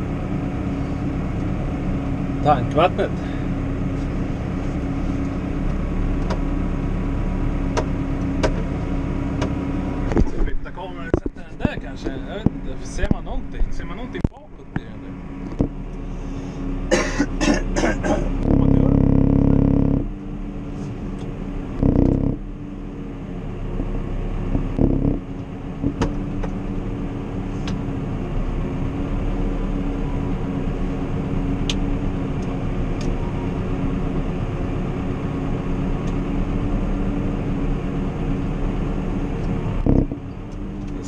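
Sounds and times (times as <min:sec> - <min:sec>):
low steady hum: 0:00.0 - 0:41.0
tractor engine running under load: 0:00.0 - 0:41.0.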